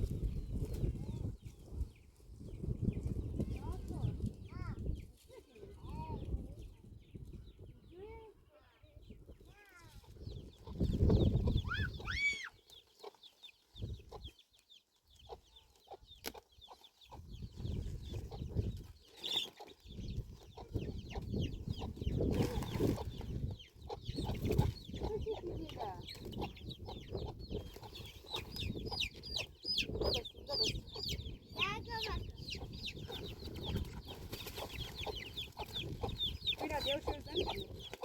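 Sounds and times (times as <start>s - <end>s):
chickens clucking and chirping: 0.0s - 8.2s, 8.9s - 38.0s.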